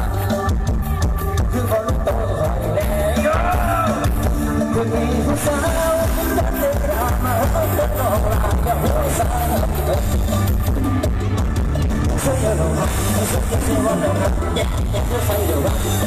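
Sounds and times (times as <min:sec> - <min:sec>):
loud bass-heavy music with singing: 0:00.0 - 0:16.0.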